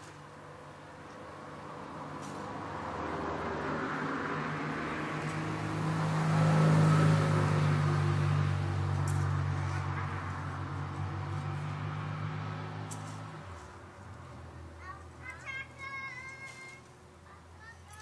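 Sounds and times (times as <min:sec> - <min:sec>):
car passing: 0:00.0 - 0:17.9.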